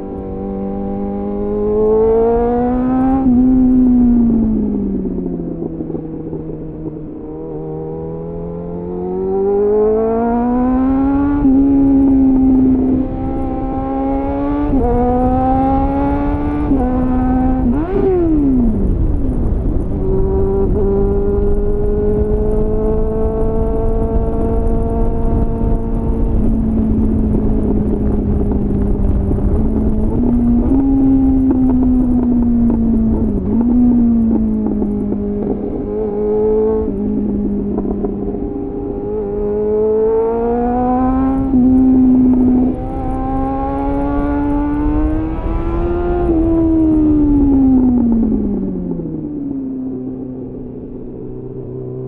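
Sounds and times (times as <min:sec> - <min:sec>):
low wind rumble: 0:00.0 - 0:52.0
motorcycle engine revving: 0:00.0 - 0:52.0.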